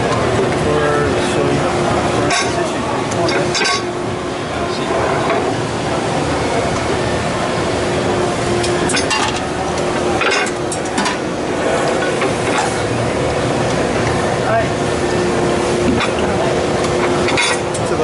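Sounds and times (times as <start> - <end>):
constant hum: 0.0 - 18.0
machine hall din: 0.0 - 18.0.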